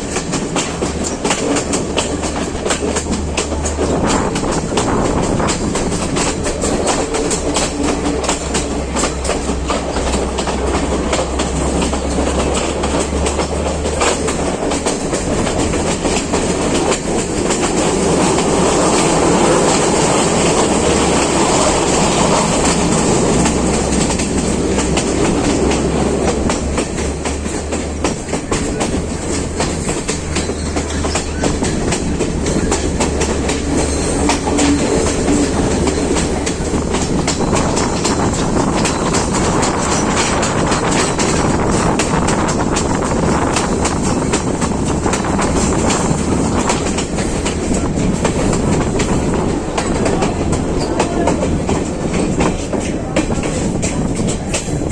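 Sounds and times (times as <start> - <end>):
train rumbling: 0.0 - 54.9
train wheels clacking on rails: 0.0 - 54.9.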